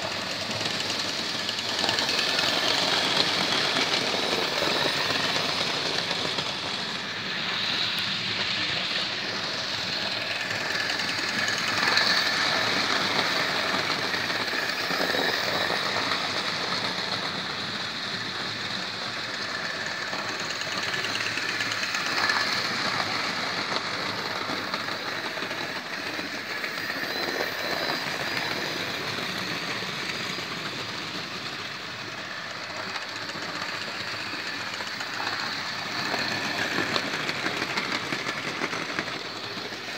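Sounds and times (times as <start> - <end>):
small electric motors whirring: 0.0 - 39.9
wheels rattling on track: 0.0 - 39.9.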